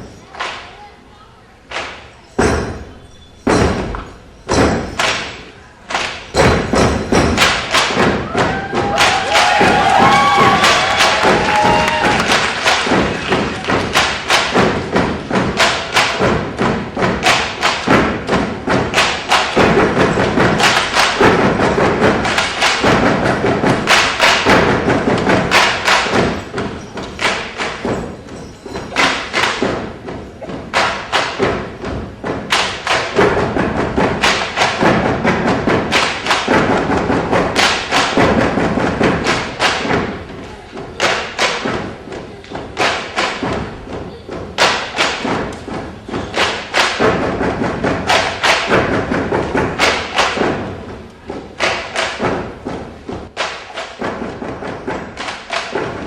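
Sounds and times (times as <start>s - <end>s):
music: 1.7s - 56.0s
rapid percussive thumps: 1.7s - 56.0s.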